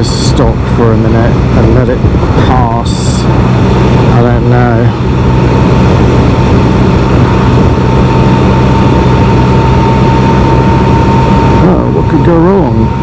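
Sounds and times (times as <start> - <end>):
high whine: 0.0 - 13.0
motorcycle engine drone: 0.0 - 13.0
wind and road noise: 0.0 - 13.0.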